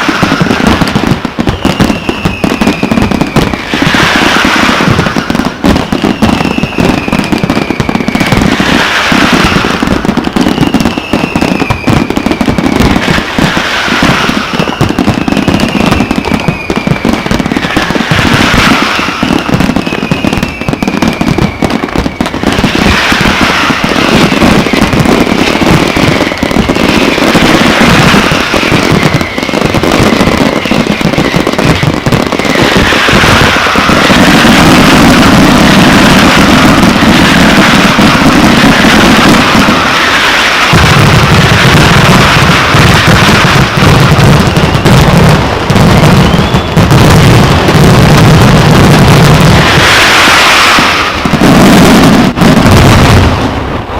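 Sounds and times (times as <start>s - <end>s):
falling firework whistles: 0.0s - 53.9s
fireworks bangs and crackling: 0.0s - 53.9s.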